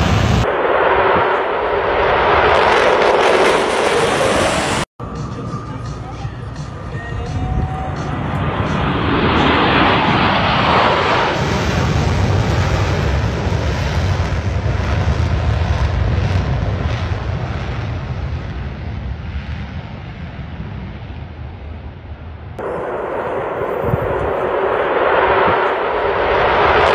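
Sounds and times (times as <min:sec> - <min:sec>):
jet engine roar flying past: 0:00.0 - 0:26.9.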